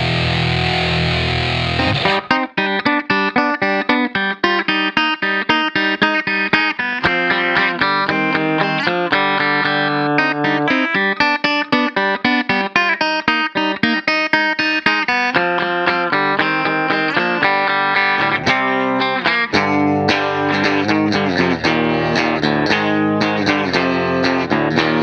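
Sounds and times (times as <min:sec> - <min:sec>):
electric guitar lead solo: 0:00.0 - 0:25.0.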